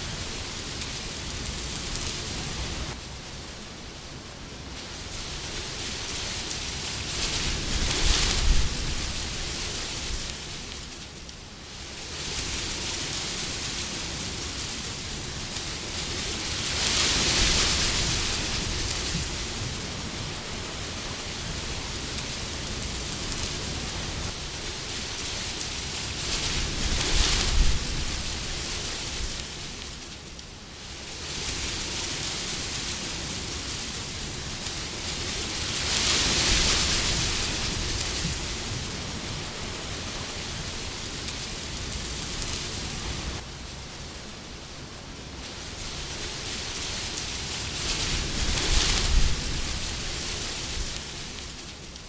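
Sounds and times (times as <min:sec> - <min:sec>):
wind blowing: 0:00.0 - 0:10.7, 0:12.3 - 0:30.1, 0:31.3 - 0:52.0.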